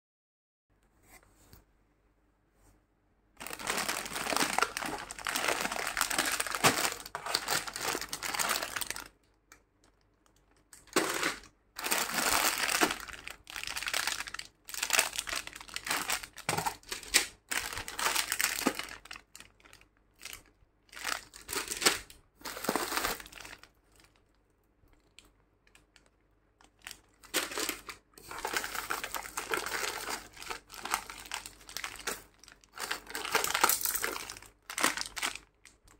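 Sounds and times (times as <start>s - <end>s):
plastic bags crinkling: 3.4s - 24.4s, 25.0s - 35.9s.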